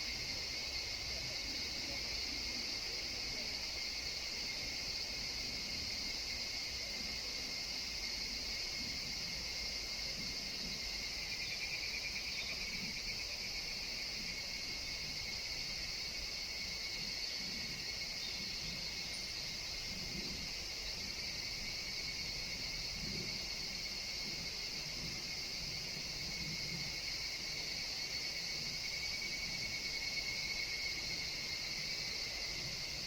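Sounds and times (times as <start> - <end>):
forest insects ringing drone: 0.0 - 33.0.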